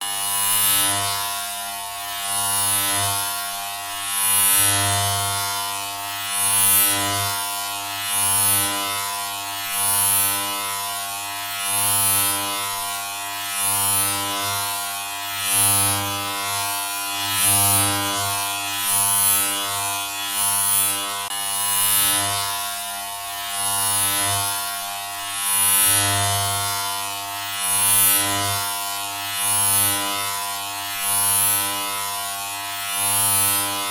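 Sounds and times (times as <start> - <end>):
low electric buzz: 0.0 - 33.9.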